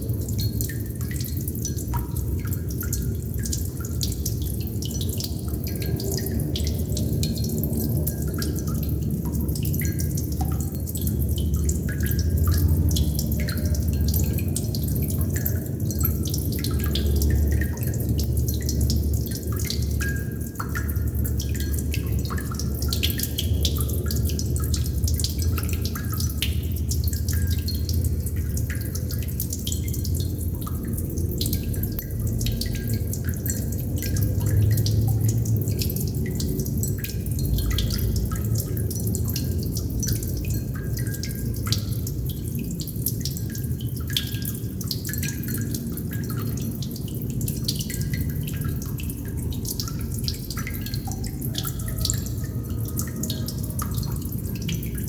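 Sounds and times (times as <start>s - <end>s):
low background wash: 0.0s - 55.0s
water droplets dripping: 0.0s - 55.0s.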